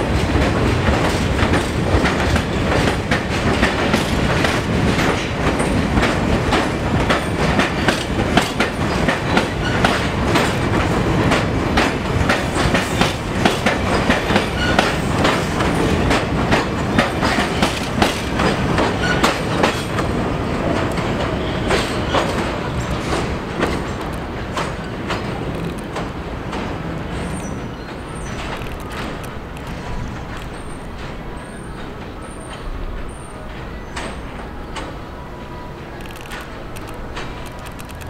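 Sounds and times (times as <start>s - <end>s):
subway train rumbling past: 0.0s - 38.0s.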